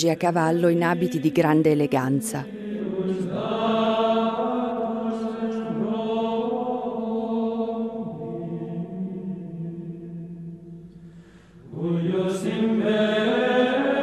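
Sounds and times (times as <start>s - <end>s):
voices singing slow chant: 0.0s - 14.0s.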